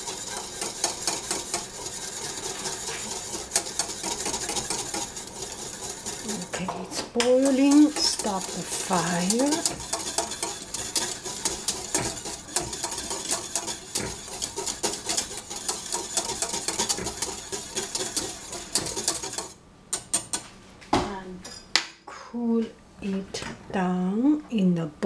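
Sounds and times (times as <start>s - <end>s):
wire whisk beating in metal pan: 0.0s - 20.5s.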